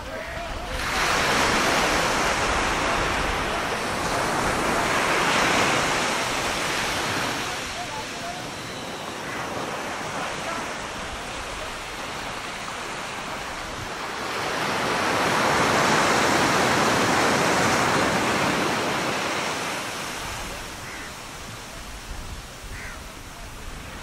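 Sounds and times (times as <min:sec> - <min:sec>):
surf washing on sandy beach: 0:00.0 - 0:24.0.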